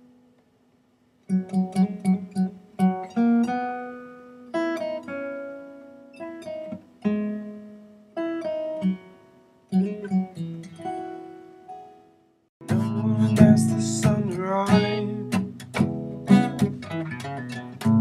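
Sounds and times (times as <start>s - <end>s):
acoustic guitar music: 1.2s - 18.0s.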